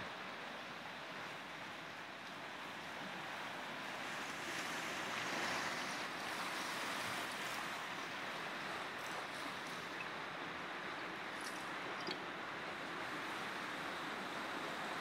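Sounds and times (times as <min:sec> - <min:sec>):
river rushing with ice: 0:00.1 - 0:15.0.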